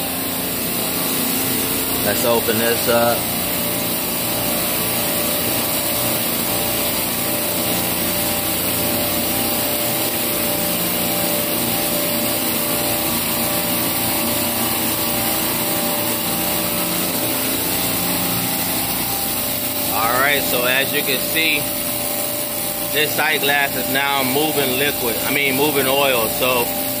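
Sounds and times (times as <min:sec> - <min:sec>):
compressors droning: 0:00.0 - 0:27.0.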